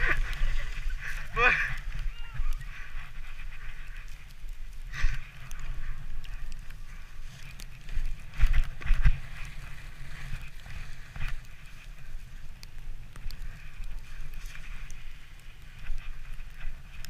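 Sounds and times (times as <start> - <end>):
sledge sliding over snow: 0.0 - 17.0.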